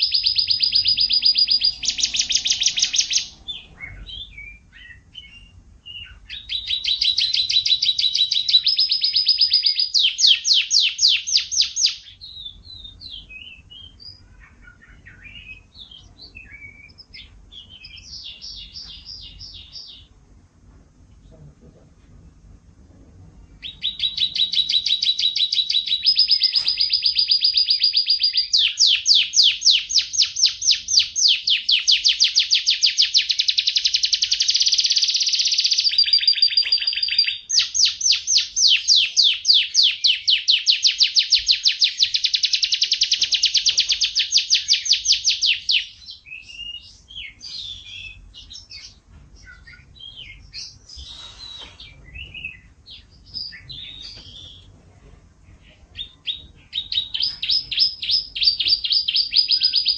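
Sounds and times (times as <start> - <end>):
canary singing trills: 0.0 - 20.4, 23.4 - 54.7, 55.4 - 59.9.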